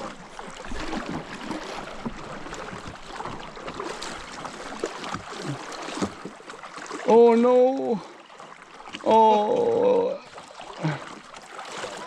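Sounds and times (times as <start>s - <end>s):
water swishing around boat: 0.0s - 12.0s.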